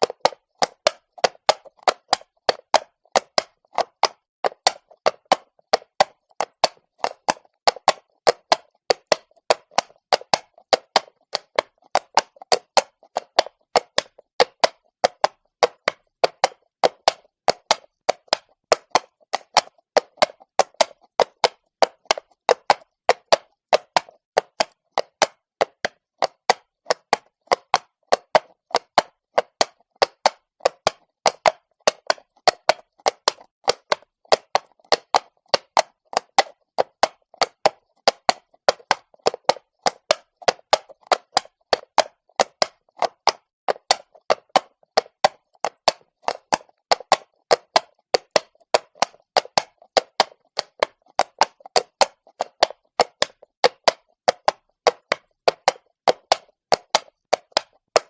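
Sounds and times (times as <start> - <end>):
horse hooves clopping on stone: 0.0 - 58.0.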